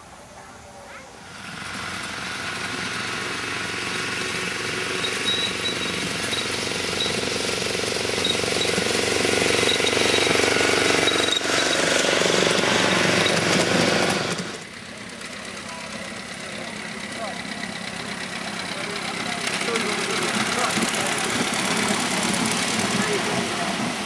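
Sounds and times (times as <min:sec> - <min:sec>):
miniature locomotive running: 0:01.2 - 0:24.0.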